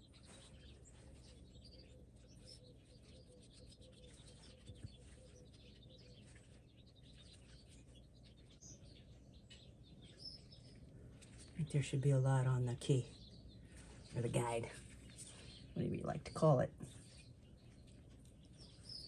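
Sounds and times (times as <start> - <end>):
faint bird chirps: 0.0 - 12.0, 12.9 - 19.0.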